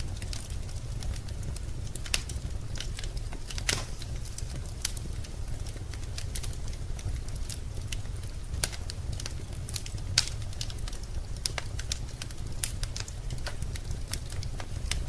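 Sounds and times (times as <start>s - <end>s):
low rumble of fire: 0.0s - 15.0s
wood fire crackling and popping: 0.0s - 15.0s.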